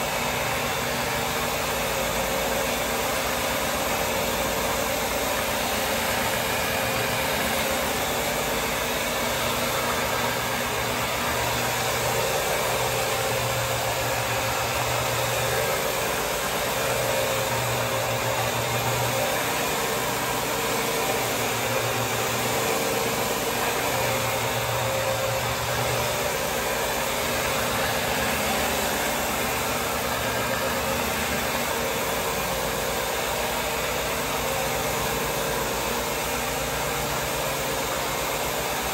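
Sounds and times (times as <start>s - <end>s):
floor machine brushes scrubbing: 0.0s - 38.9s.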